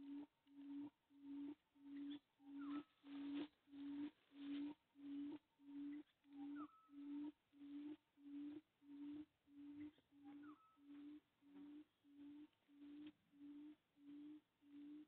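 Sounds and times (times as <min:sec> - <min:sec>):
faint low hooting call: 0:00.0 - 0:15.0.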